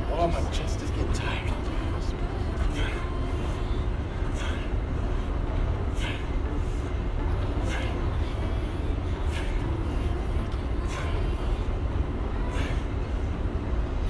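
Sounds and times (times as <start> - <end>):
airport terminal background rumble: 0.0 - 14.0.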